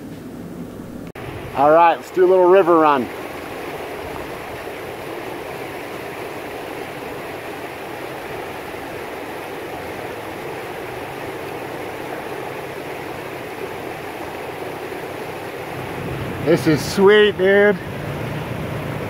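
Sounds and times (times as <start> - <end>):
floodwater rushing: 1.1 - 19.0.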